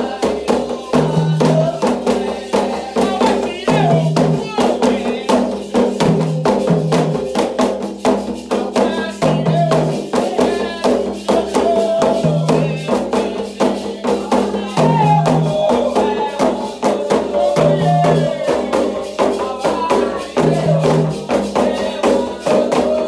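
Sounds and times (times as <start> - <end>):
hand drums and percussion: 0.0 - 23.0
voices singing: 0.0 - 23.0.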